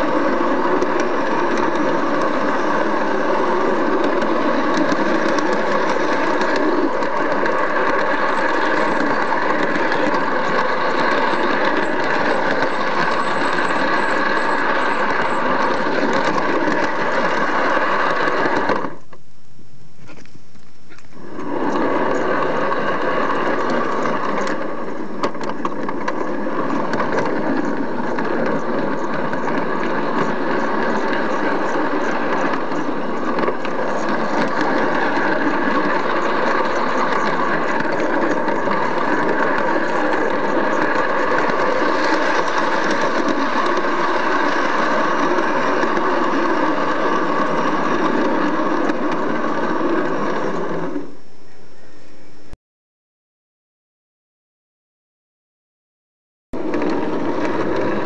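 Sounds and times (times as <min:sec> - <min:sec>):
model train motor whine: 0:00.0 - 0:19.2, 0:21.0 - 0:52.4, 0:56.6 - 0:58.0.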